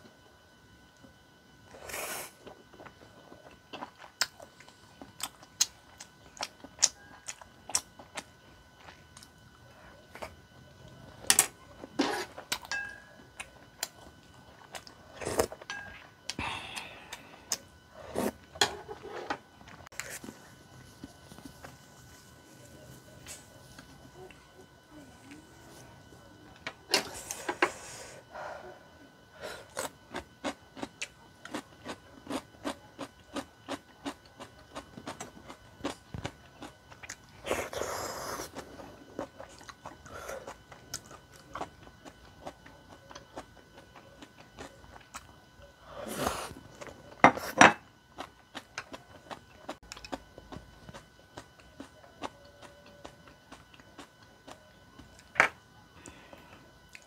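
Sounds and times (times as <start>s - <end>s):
person chewing food: 1.8s - 24.4s, 29.6s - 57.0s.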